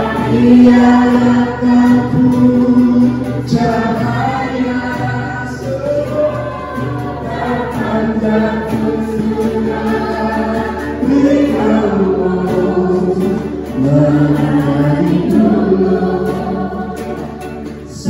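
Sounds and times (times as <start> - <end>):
group singing in chorus: 0.0 - 18.0.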